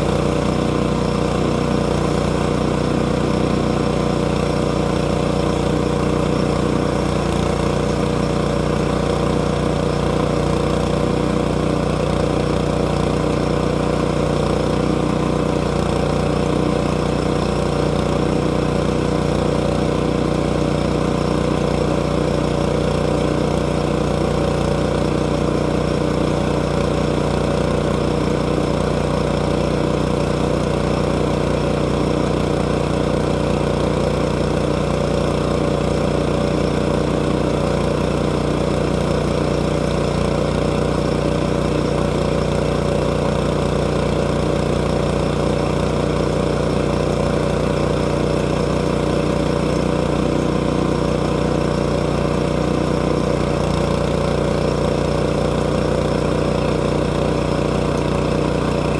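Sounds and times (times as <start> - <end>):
small sawmill engine running: 0.0 - 58.9.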